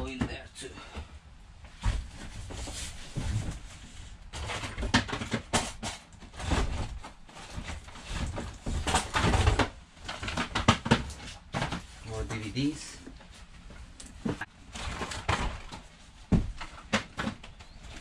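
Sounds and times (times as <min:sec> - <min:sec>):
boxes knocking and clicking: 0:01.8 - 0:12.5, 0:14.2 - 0:18.0.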